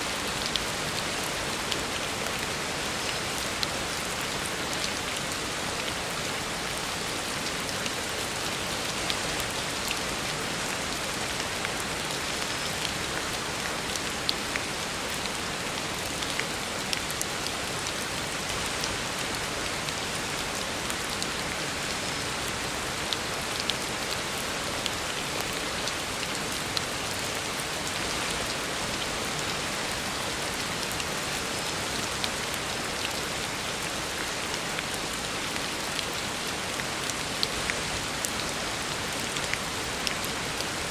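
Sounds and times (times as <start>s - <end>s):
heavy rain on a road: 0.0s - 40.9s.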